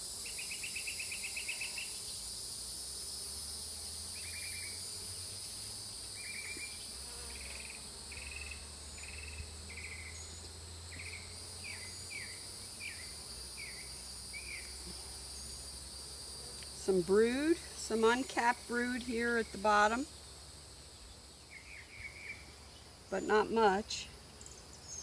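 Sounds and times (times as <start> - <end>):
insect chirps: 0.0 - 25.0
insect drone: 0.0 - 25.0.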